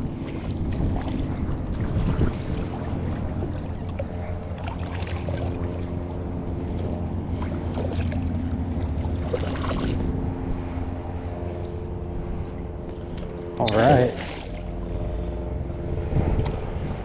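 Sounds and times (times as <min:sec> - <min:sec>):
motor humming: 0:00.0 - 0:00.7, 0:03.5 - 0:17.0.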